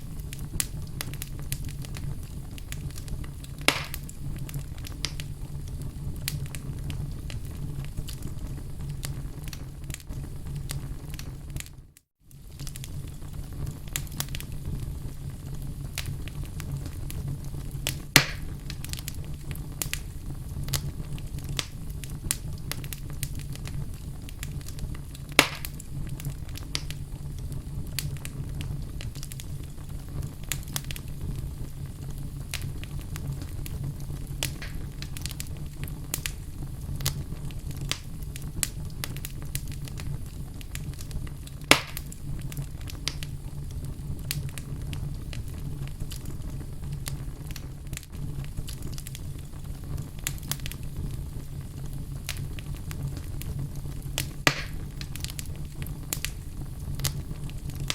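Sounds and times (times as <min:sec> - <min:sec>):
loud fire pops: 0:00.0 - 0:57.9
wood fire crackling: 0:00.0 - 0:57.9.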